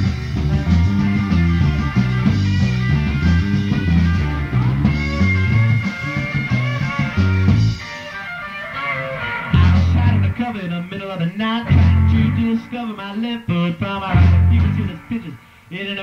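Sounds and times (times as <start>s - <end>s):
bass line: 0.0s - 15.4s
drums: 0.0s - 16.0s
electric guitar: 0.0s - 16.0s.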